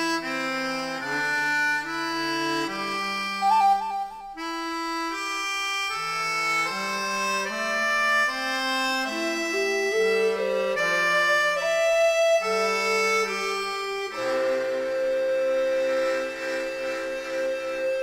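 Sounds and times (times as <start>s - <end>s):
instrumental music with held notes: 0.0s - 18.0s.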